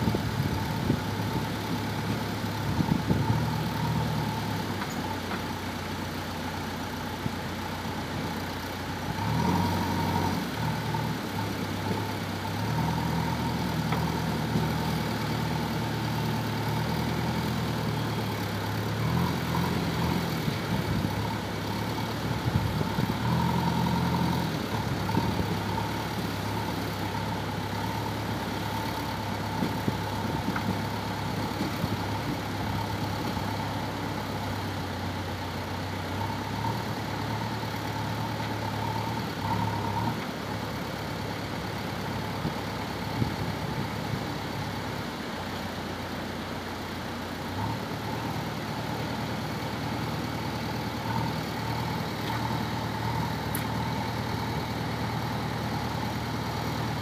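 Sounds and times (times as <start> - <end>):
diesel engine running: 0.0 - 57.0
thin steady whine: 0.0 - 57.0.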